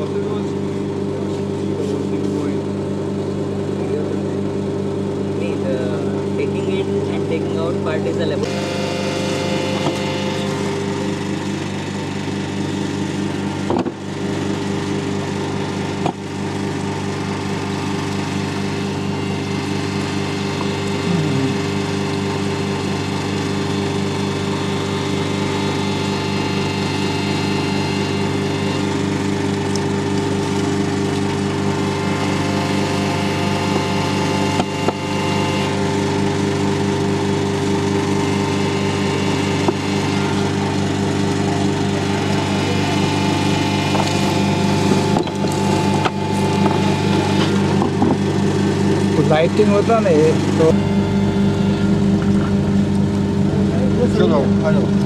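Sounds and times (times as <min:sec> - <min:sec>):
hydraulic machinery droning: 0:00.0 - 0:55.0.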